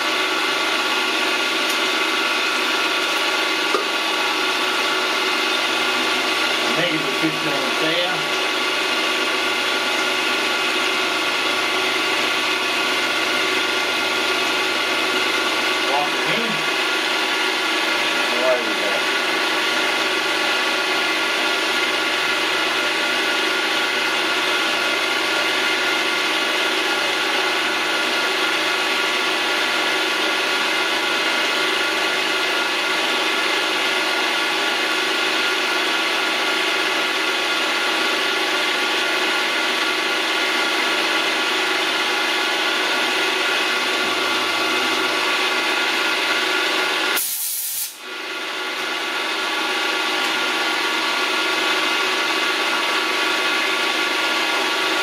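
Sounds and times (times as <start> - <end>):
milling machine gear whine: 0.0 - 47.2.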